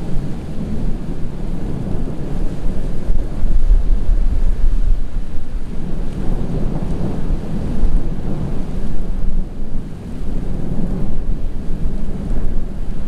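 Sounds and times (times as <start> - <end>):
rolling thunder: 0.0 - 13.0
wind buffeting microphone: 0.0 - 13.0.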